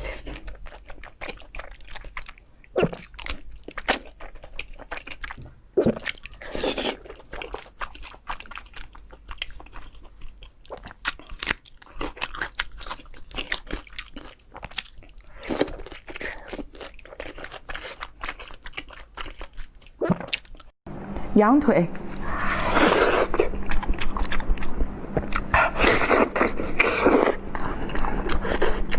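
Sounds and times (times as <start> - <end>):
person chewing meat: 0.0 - 20.8, 22.4 - 28.9.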